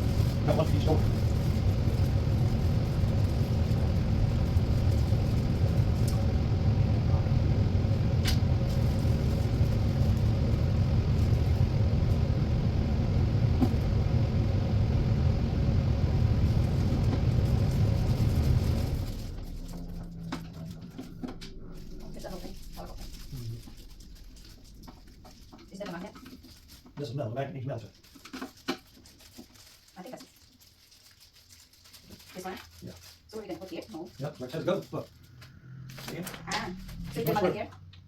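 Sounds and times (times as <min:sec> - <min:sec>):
low rumble: 0:00.0 - 0:26.9, 0:34.4 - 0:38.0.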